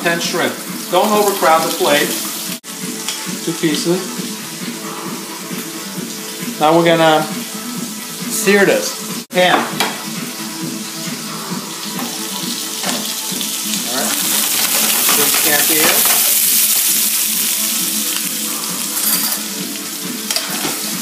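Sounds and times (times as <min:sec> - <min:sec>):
shrimp sizzling in frying pan: 0:00.0 - 0:06.4, 0:09.9 - 0:21.0.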